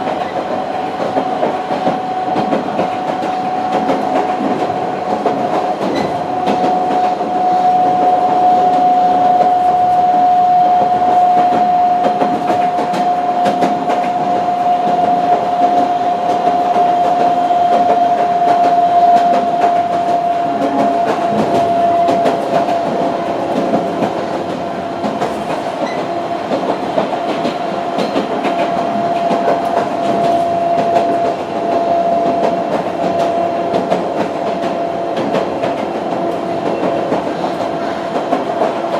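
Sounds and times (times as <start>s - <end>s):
train running rumble: 0.0s - 38.9s.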